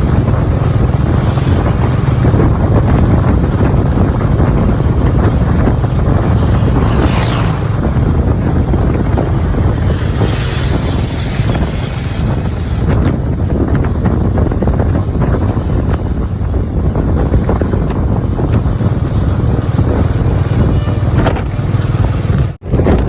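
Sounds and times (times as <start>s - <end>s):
vehicle low rumble: 0.0s - 23.0s
wind buffeting microphone: 0.0s - 23.0s.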